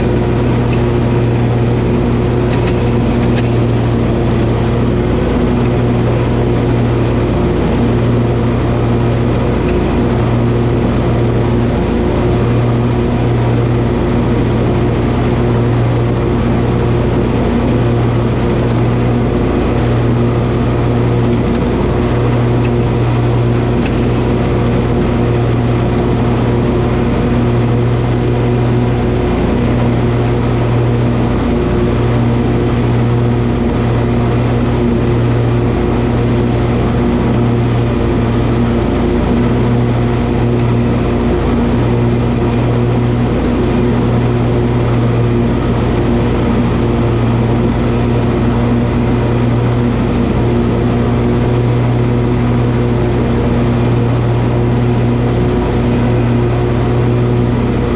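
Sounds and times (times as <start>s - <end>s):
riding mower engine drone: 0.0s - 57.9s.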